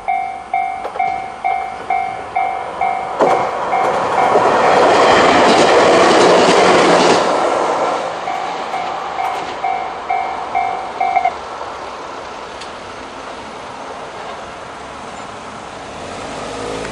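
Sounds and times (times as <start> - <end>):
train rail noise: 0.0 - 16.9.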